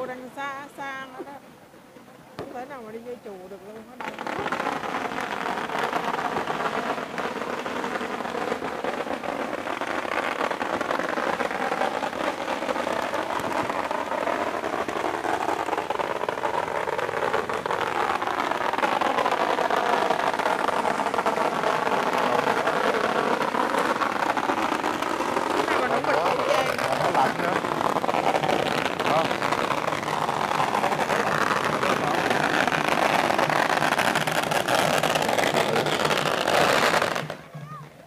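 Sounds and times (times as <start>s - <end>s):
firecrackers crackling: 0.0s - 38.0s.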